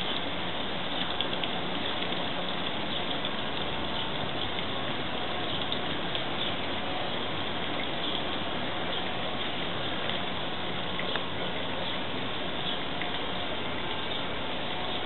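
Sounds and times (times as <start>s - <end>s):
fountain water rushing: 0.0s - 15.0s.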